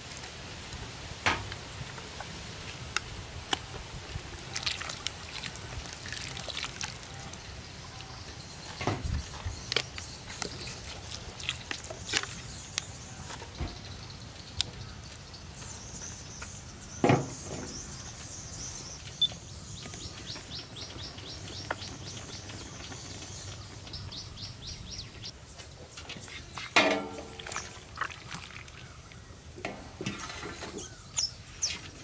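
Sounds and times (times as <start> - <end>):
birds chirping: 0.9 - 32.0.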